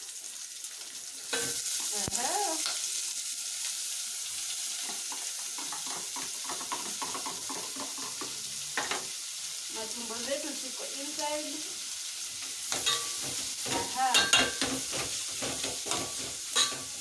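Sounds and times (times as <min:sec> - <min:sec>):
tripe sizzling in hot oil: 0:00.0 - 0:17.0.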